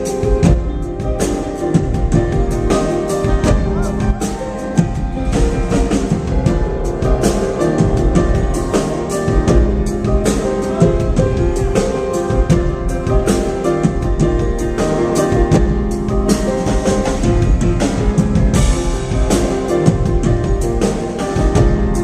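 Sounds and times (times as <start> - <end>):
drum kit beat: 0.0 - 22.0
keyboard and bass tones: 0.0 - 22.0.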